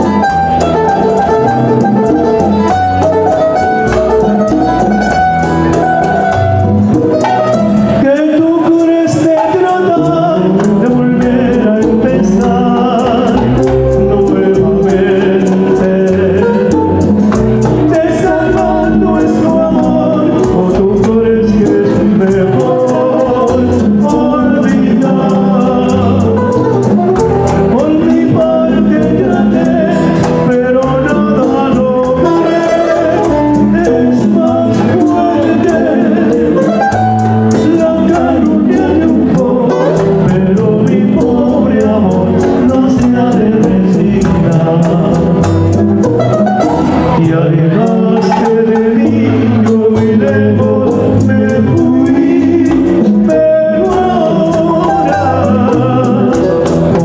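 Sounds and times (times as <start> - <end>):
acoustic guitars: 0.0 - 57.0
men singing: 0.0 - 57.0.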